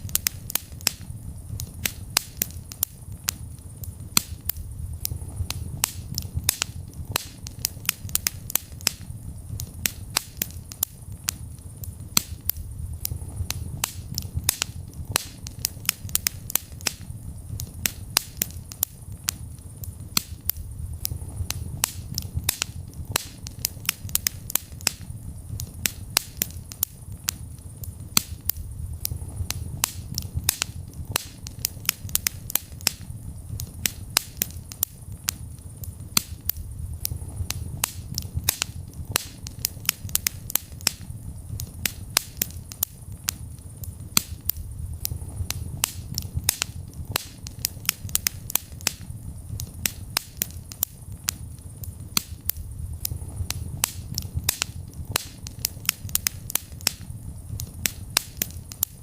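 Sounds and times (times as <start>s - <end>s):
fire popping and snapping: 0.0s - 59.0s
rumble of flames: 0.0s - 59.0s.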